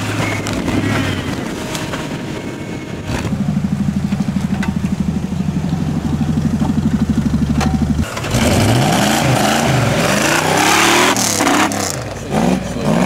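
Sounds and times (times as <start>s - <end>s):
off-road vehicle engines climbing: 0.0s - 13.0s.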